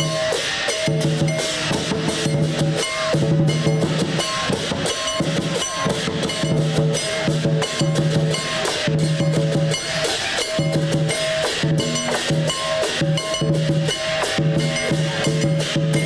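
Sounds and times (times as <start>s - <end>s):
cymbal or gong crashes: 0.0s - 16.0s
drums beating: 0.0s - 16.0s.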